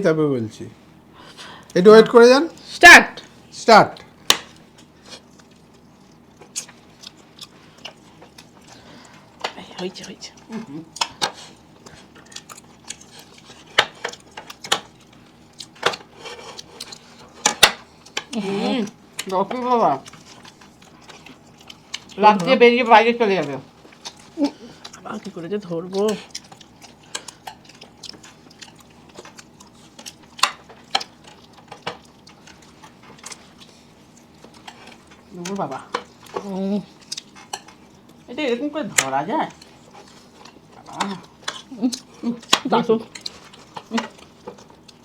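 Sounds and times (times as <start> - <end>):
chewing food: 2.6 - 45.0.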